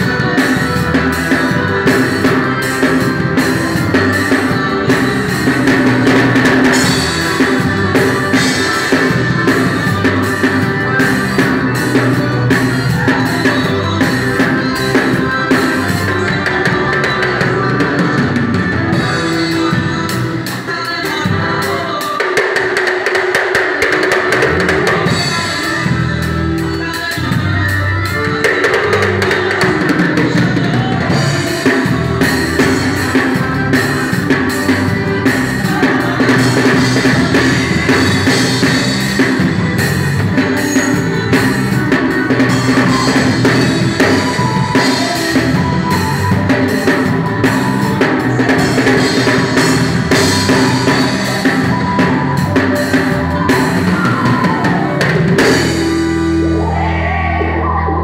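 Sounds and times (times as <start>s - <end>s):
drum kit playing: 0.0s - 58.0s
electric guitar and keyboard chords: 0.0s - 58.0s
live band music: 0.0s - 58.0s.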